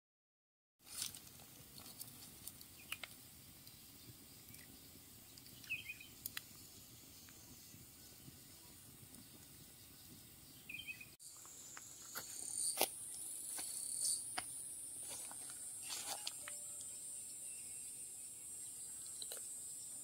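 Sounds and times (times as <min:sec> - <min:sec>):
insects trilling: 0:00.9 - 0:20.0.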